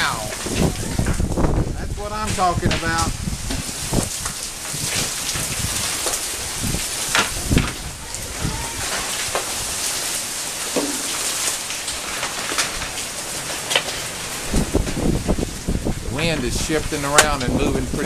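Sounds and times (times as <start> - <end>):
hail and rain pelting: 0.0 - 18.0
hailstones clicking: 0.0 - 18.0.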